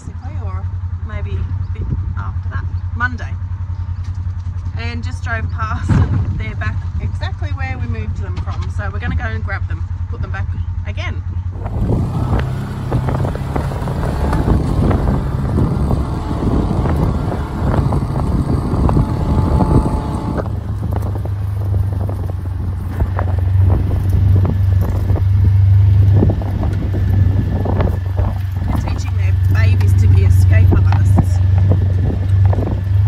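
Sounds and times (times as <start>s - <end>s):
utility vehicle engine drone: 0.0s - 33.0s
vehicle frame rattling: 0.0s - 33.0s.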